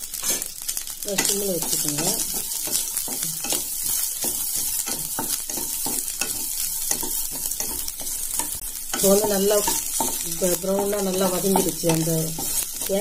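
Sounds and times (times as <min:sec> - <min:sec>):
coconut sizzling in oil: 0:00.0 - 0:13.0
spatula scraping pan: 0:00.1 - 0:00.6, 0:01.2 - 0:13.0.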